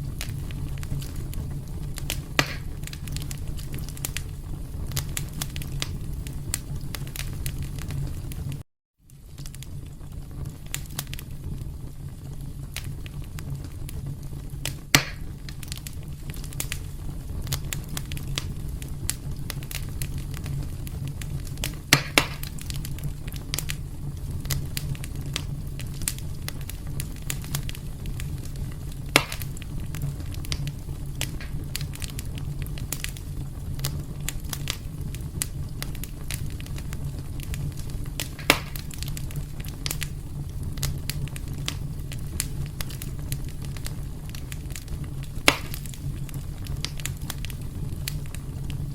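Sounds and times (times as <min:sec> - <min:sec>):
fire pops: 0:00.0 - 0:48.9
wood fire crackling: 0:00.0 - 0:48.9.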